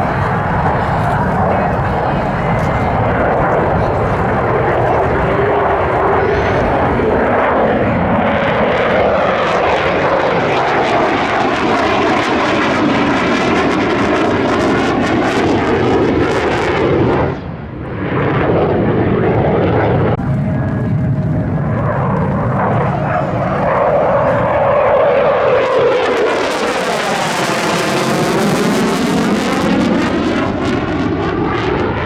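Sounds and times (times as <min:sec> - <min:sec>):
jet aircraft flying past: 0:00.0 - 0:32.0.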